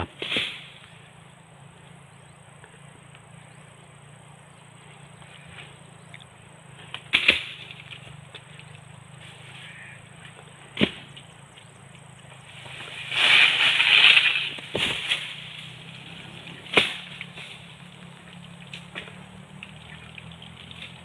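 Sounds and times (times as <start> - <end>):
palm fronds rustling: 0.0 - 21.0.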